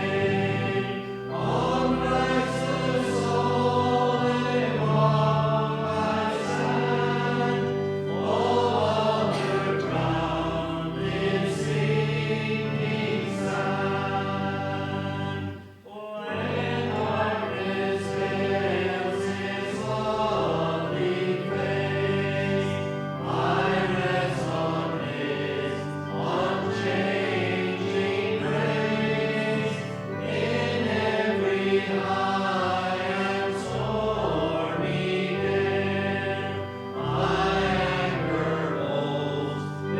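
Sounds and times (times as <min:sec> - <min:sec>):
instrumental accompaniment: 0:00.0 - 0:39.9
many voices singing a hymn: 0:00.0 - 0:39.9.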